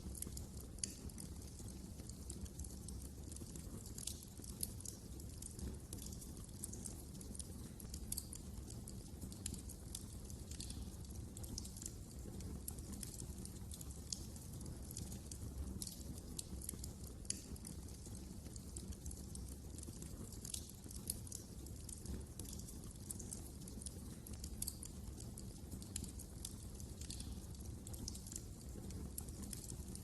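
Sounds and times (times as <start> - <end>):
fireplace fire crackling: 0.0 - 30.0.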